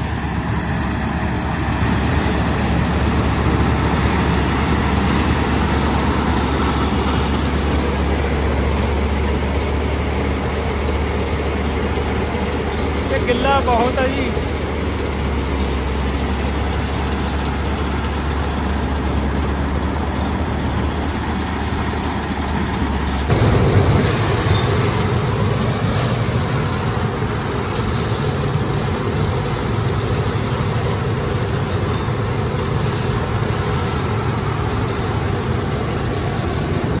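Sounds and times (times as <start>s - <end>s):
combine harvester engine droning: 0.0s - 37.0s.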